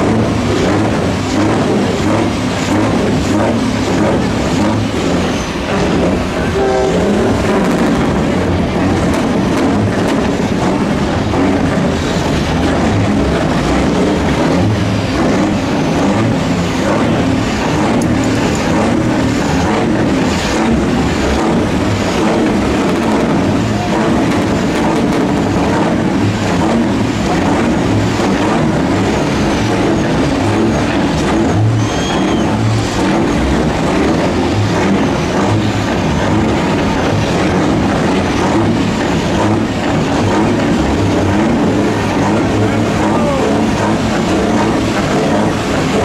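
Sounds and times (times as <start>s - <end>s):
diesel truck engine revving: 0.0s - 46.0s.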